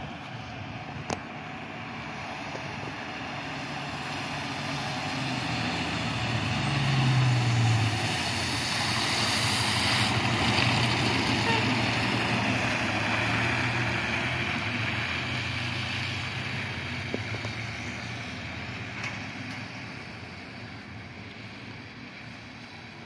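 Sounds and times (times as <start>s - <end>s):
fire engine diesel engine: 0.0s - 23.0s.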